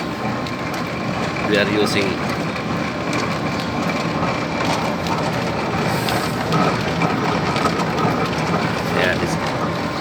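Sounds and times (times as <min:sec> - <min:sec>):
pedal washing machine churning: 0:00.0 - 0:10.0.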